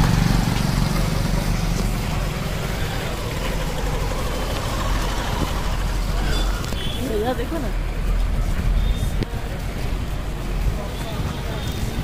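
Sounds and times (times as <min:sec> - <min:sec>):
auto-rickshaw engine running: 0:00.0 - 0:12.0
road noise: 0:00.0 - 0:12.0.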